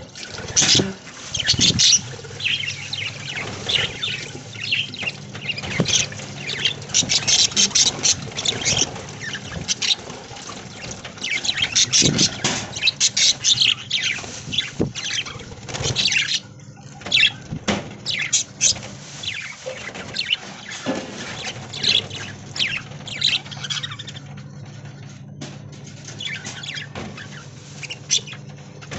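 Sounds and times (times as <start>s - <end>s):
budgerigars chirping: 0.4s - 24.3s, 26.0s - 28.9s.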